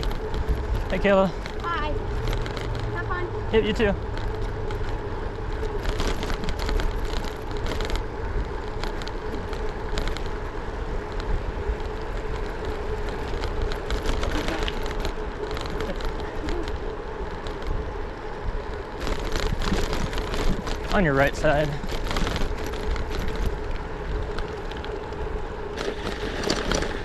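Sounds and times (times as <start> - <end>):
bike rattling: 0.0 - 27.0
bike tyres rolling on dirt: 0.0 - 27.0.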